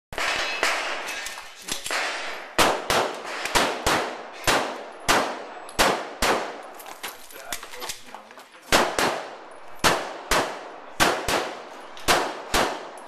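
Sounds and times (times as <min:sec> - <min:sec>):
pistol shots with echo: 0:00.2 - 0:06.8, 0:08.6 - 0:13.0.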